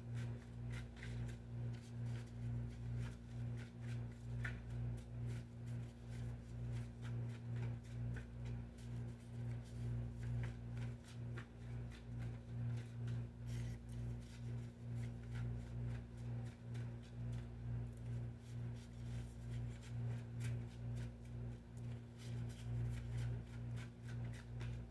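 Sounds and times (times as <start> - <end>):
low pulsing hum: 0.0 - 24.9.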